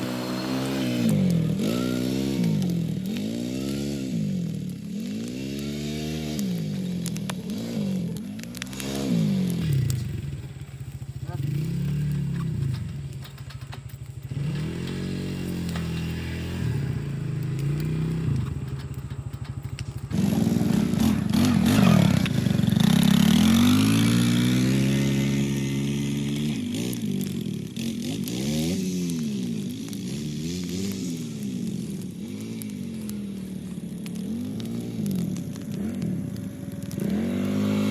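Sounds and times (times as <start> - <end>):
off-road vehicle engines revving: 0.0 - 37.9.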